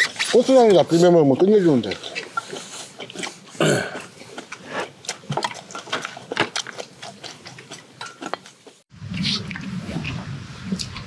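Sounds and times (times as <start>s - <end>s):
chewing and slurping: 0.0s - 11.0s.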